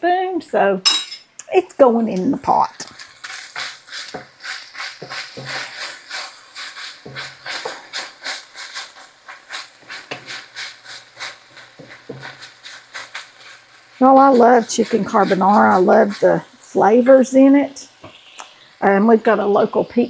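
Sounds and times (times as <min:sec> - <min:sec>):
bacon sizzling in a frying pan: 0:01.7 - 0:20.0
wooden spoon scraping a pan: 0:02.2 - 0:19.0.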